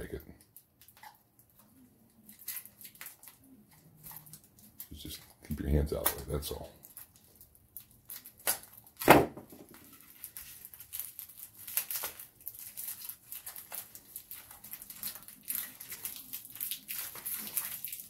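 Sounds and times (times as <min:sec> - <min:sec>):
plastic wrapping crinkling and tearing: 0:00.0 - 0:18.0.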